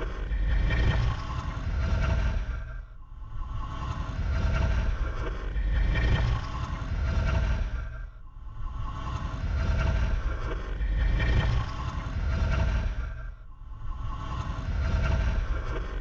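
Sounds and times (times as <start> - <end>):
deep ghostly breath: 0.0 - 16.0.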